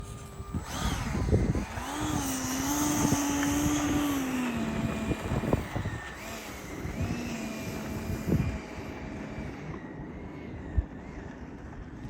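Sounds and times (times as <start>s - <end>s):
electric ducted fan whining: 0.0s - 12.0s
wind buffeting microphone: 0.0s - 12.0s.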